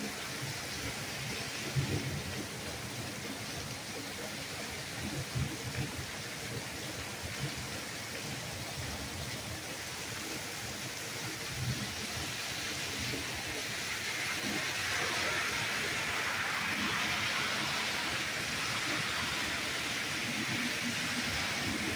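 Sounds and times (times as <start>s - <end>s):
torrential rain: 0.0s - 21.9s.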